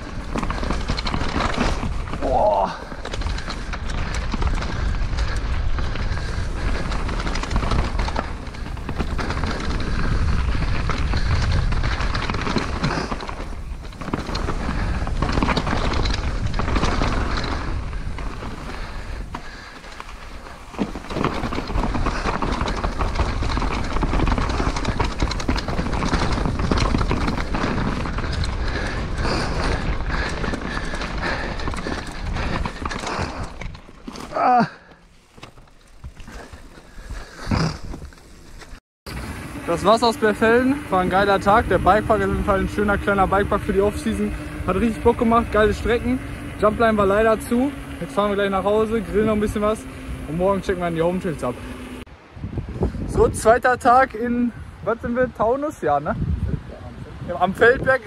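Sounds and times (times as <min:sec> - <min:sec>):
wind buffeting microphone: 0:00.0 - 0:34.8, 0:35.9 - 0:58.0
tyre noise on dirt: 0:00.0 - 0:56.6.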